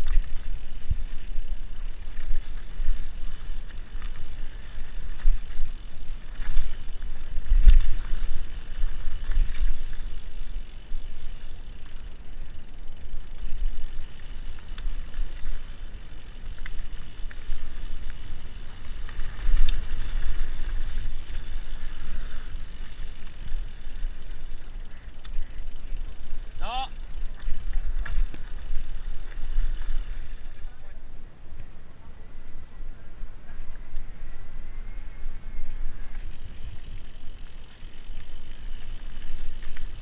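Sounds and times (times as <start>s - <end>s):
bike knocking and rattling: 0.0s - 30.7s, 35.7s - 40.0s
low rumble of bike tyres: 0.0s - 40.0s.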